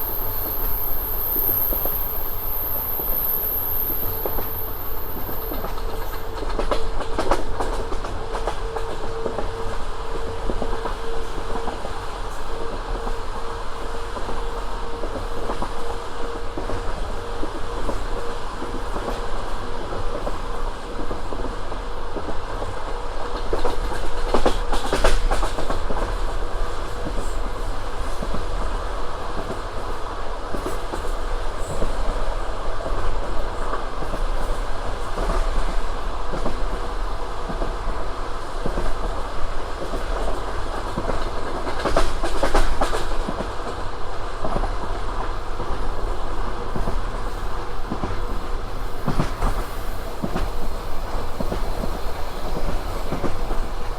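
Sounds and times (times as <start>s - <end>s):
train rolling rumble: 0.0s - 53.9s.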